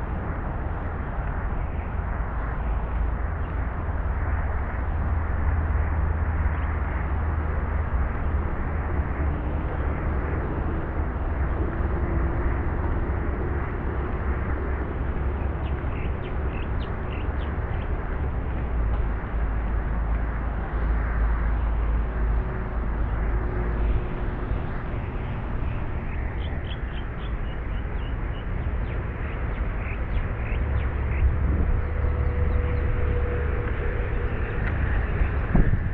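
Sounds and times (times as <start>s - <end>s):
low rumble: 0.0s - 35.9s.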